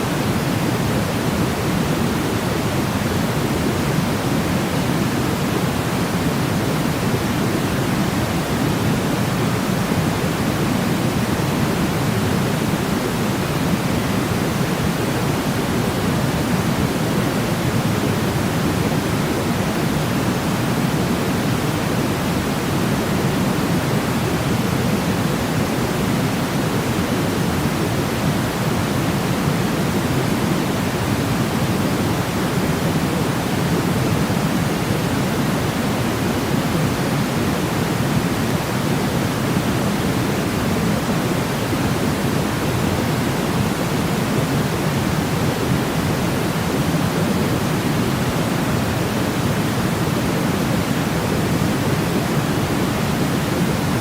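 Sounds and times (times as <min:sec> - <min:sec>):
steady low hiss noise: 0:00.0 - 0:54.0.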